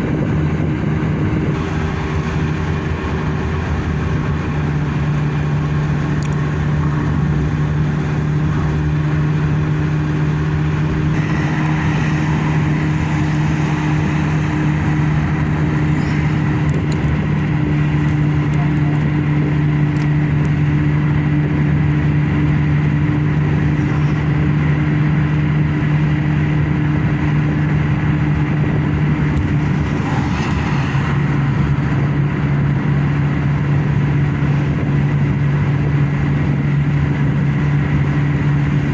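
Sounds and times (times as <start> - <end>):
car engine drone: 0.0 - 38.9
road and tyre noise: 0.0 - 38.9.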